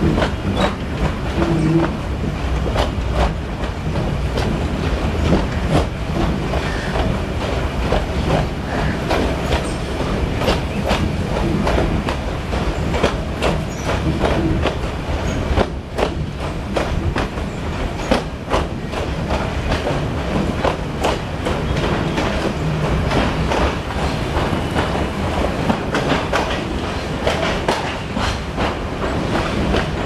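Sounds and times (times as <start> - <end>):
train coach rumbling: 0.0 - 30.0
wheels clicking over rail joints: 0.0 - 30.0.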